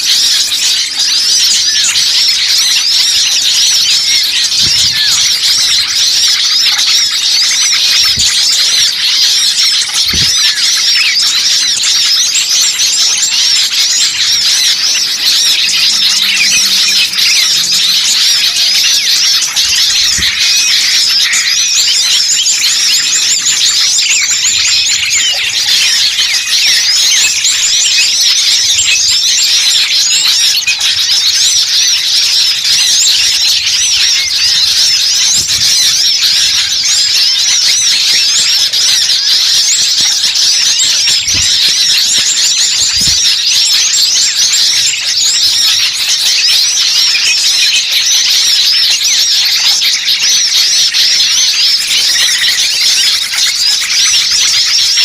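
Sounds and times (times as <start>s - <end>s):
chorus of small songbirds chirping: 0.0s - 55.0s.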